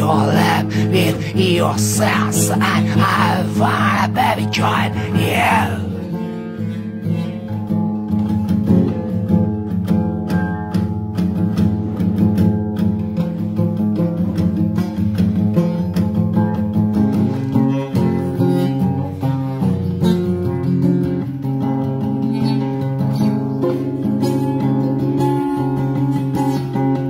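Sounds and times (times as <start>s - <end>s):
strummed acoustic guitar music: 0.0s - 27.0s.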